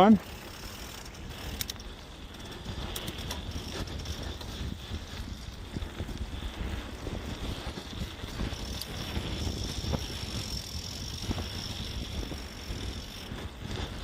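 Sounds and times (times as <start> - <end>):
bike rattling on dirt trail: 0.0 - 14.0
wind buffeting microphone: 0.0 - 14.0.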